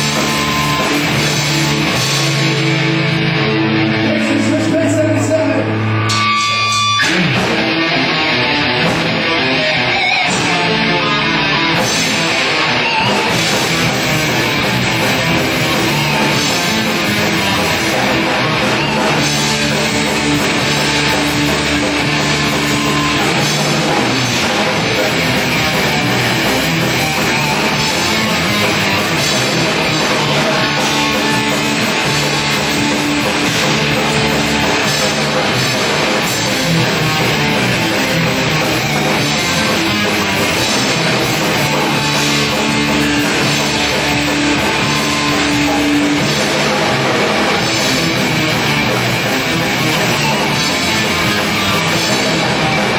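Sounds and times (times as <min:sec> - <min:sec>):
rock band playing live: 0:00.0 - 0:52.9.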